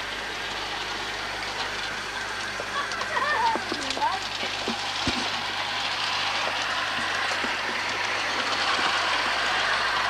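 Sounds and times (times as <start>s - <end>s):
model steam locomotive rushing: 0.0s - 10.0s.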